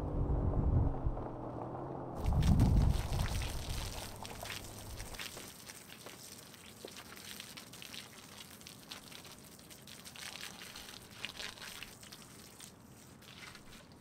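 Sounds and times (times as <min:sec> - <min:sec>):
hose water splashing: 0:02.2 - 0:14.0.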